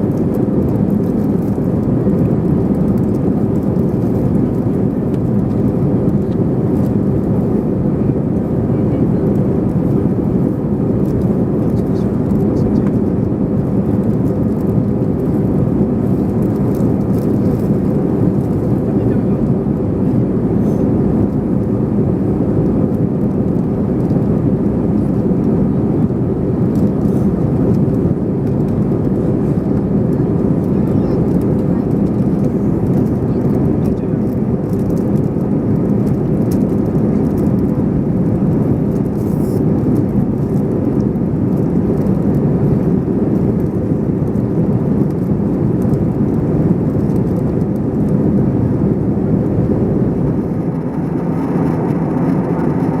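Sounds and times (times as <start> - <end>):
airplane cabin engine and airflow rush: 0.0 - 53.0.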